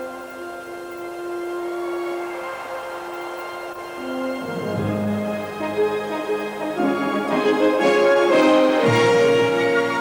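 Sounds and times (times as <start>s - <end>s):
orchestral string music: 0.0s - 10.0s.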